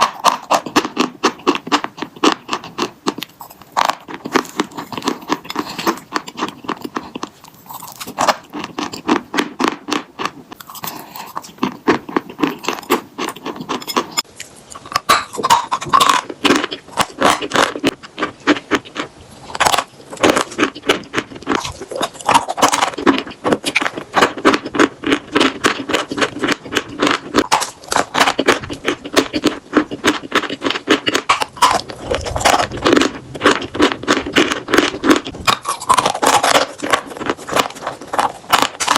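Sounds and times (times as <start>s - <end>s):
chalk being crunched and chewed: 0.0s - 38.9s.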